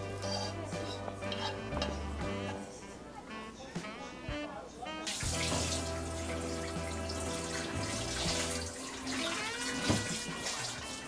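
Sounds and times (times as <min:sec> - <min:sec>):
background music with held chords: 0:00.0 - 0:11.0.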